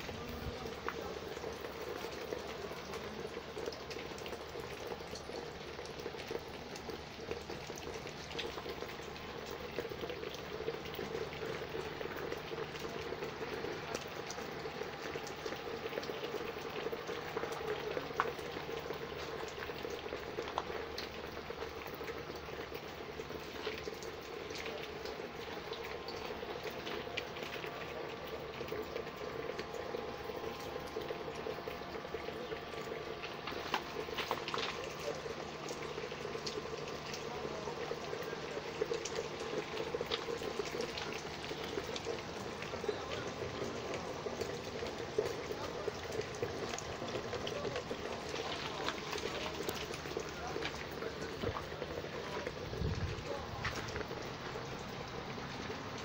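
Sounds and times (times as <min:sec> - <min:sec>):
small water drips: 0:00.0 - 0:56.0
water trickling and splashing: 0:00.0 - 0:56.0.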